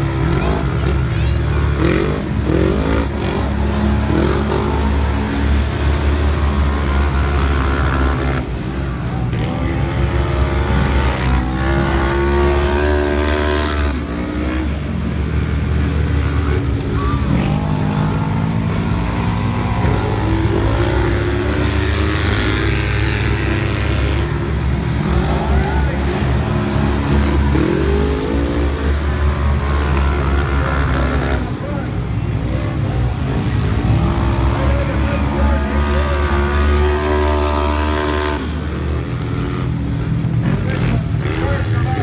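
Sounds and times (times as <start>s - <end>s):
engines revving: 0.0s - 42.0s.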